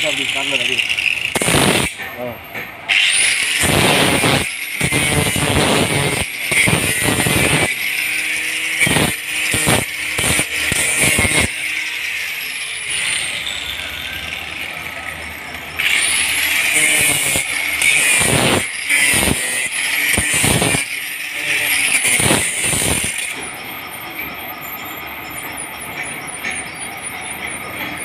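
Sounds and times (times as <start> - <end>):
angle grinder on metal pipe: 0.0 - 28.0.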